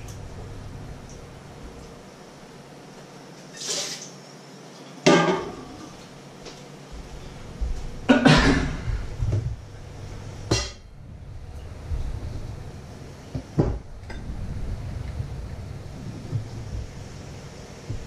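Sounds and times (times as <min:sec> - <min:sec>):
steady low hum: 0:00.0 - 0:03.4, 0:05.3 - 0:18.0.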